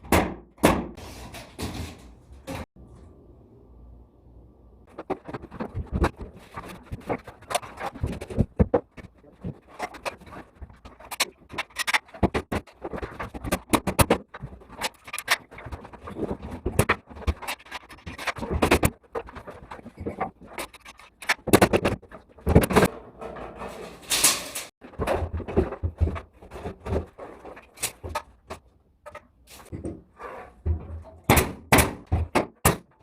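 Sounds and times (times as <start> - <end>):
construction knocks and clatter: 4.8 - 33.0.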